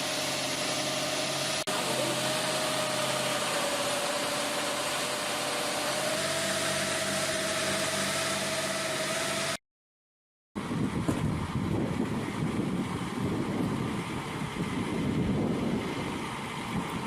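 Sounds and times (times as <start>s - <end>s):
heavy vehicle engine running: 0.0s - 9.6s, 10.6s - 17.0s.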